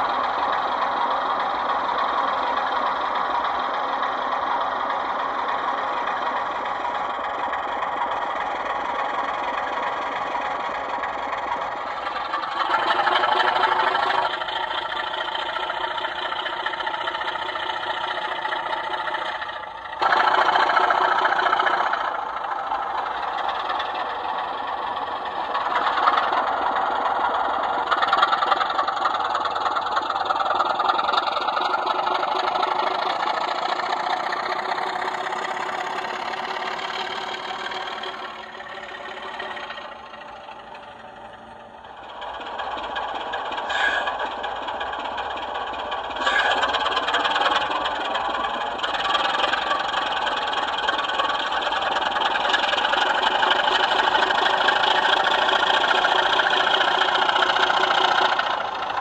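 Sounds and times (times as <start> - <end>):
diesel engine sound from small speakers: 0.0 - 59.0.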